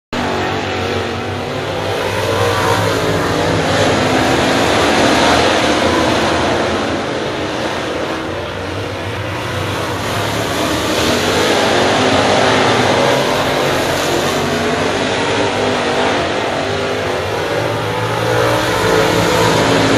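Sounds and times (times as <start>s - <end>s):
race car engines droning: 0.2s - 19.9s.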